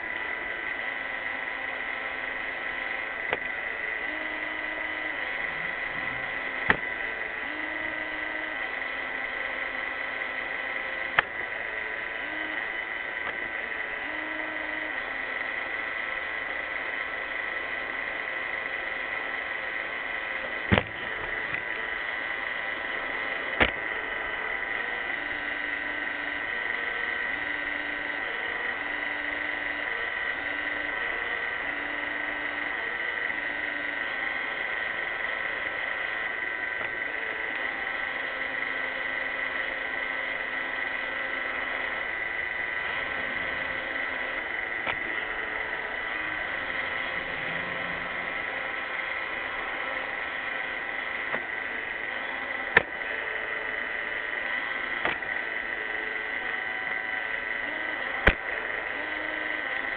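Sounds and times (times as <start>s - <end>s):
robot vacuum motor whine: 0.0s - 59.9s.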